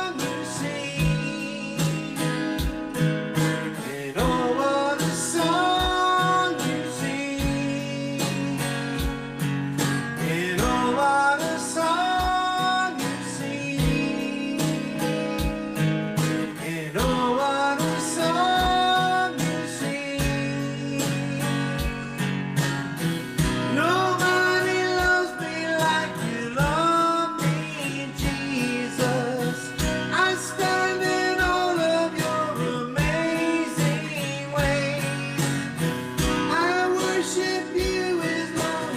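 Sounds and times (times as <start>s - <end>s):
country gospel song: 0.0s - 38.9s
strummed acoustic guitar: 0.0s - 38.9s.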